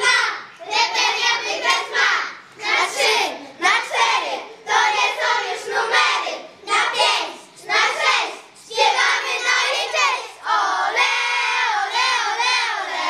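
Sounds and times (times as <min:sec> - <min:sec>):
girls singing together: 0:00.0 - 0:13.0.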